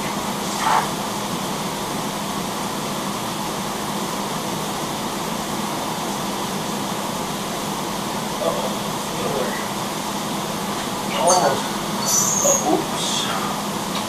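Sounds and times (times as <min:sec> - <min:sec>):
fan rushing hiss and hum: 0:00.0 - 0:14.0.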